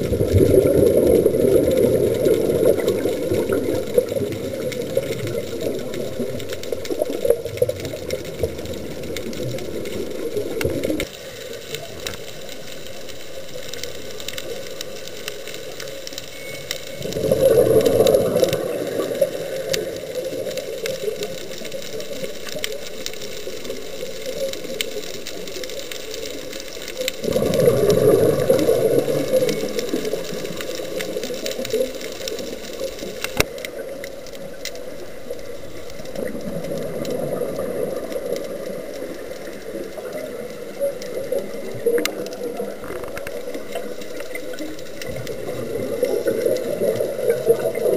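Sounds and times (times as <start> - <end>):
underwater bubbles gushing: 0.0 - 47.9
underwater noise: 0.0 - 47.9
faint ticks: 0.2 - 47.9.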